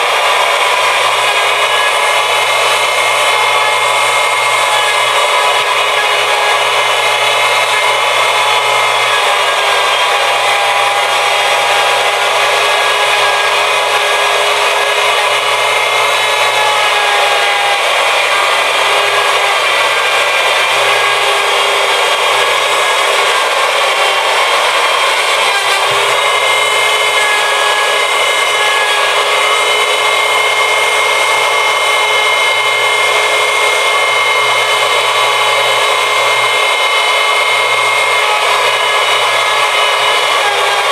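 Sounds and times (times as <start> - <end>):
wood router high whine: 0.0 - 40.9.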